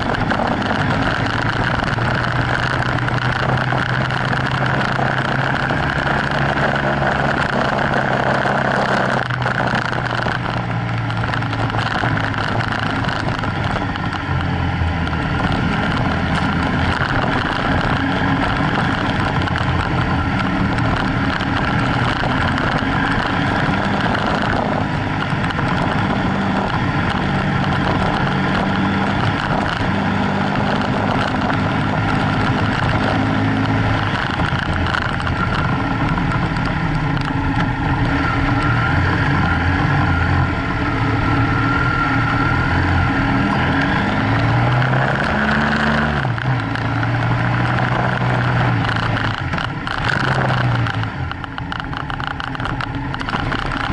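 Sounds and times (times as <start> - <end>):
motorcycle engine revving: 0.0 - 53.9
wind and riding noise: 0.0 - 53.9.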